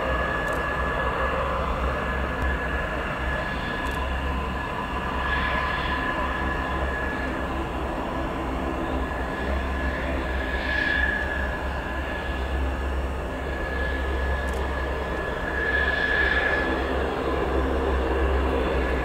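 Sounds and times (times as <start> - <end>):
jet engine whine and rumble: 0.0 - 19.0.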